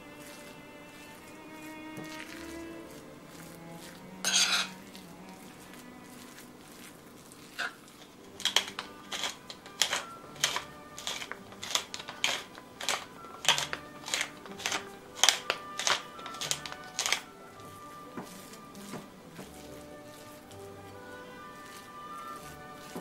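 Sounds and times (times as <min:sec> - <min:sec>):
metal spoon scraping bowl: 0:00.0 - 0:23.0
soft background music: 0:00.0 - 0:23.0
utensils clicking on bowl: 0:00.3 - 0:06.8, 0:07.5 - 0:23.0.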